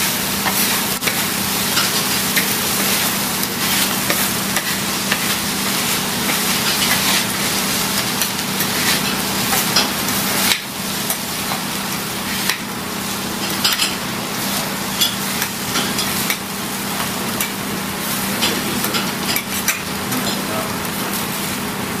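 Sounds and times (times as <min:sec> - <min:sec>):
food sizzling on griddle: 0:00.0 - 0:22.0.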